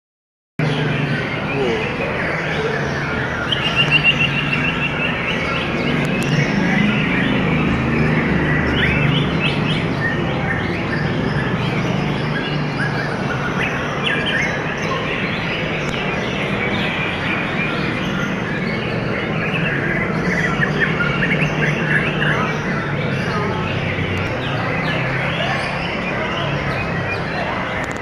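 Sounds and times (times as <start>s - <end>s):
songbirds chirping: 0.6s - 28.0s.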